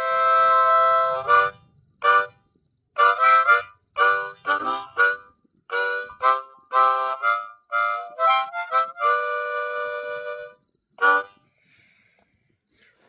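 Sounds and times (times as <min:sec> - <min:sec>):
blues harmonica playing: 0:00.0 - 0:02.4, 0:03.0 - 0:11.3.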